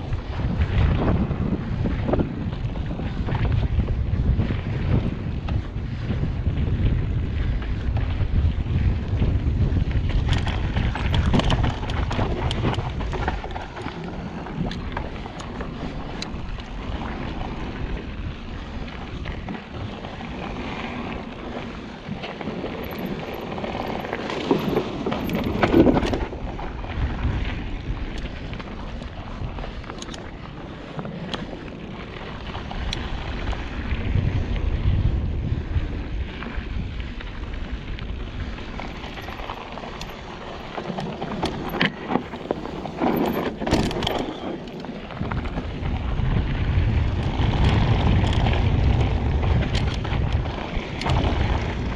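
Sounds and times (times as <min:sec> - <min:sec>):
bike clicks and rattles: 0:00.0 - 0:51.9
tyres rolling on dirt trail: 0:00.0 - 0:51.9
wind buffeting microphone: 0:00.0 - 0:51.9.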